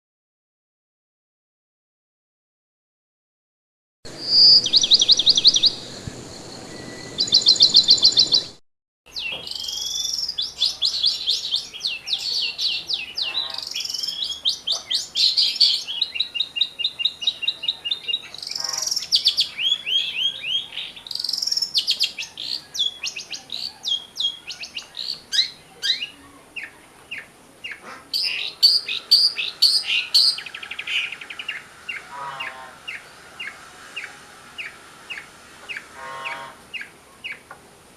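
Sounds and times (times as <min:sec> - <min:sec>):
shrike singing chirps and trills: 0:04.1 - 0:37.4.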